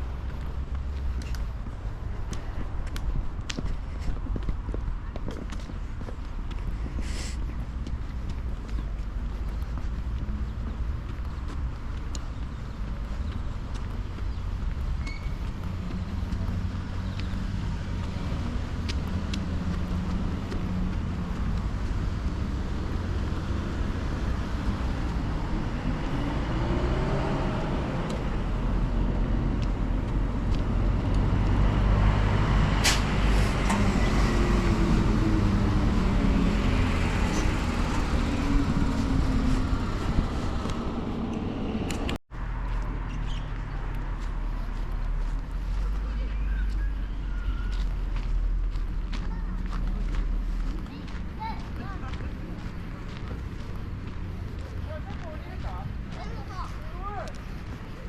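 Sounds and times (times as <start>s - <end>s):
passing motor vehicles rumbling: 0.0s - 58.0s.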